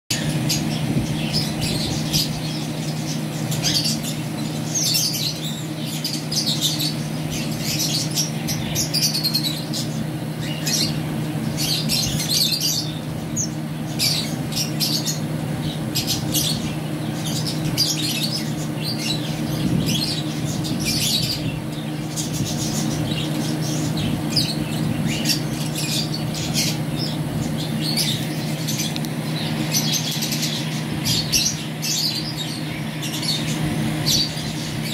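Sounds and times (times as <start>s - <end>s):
small birds chirping: 0.1s - 34.9s
steady low hum: 0.1s - 34.9s.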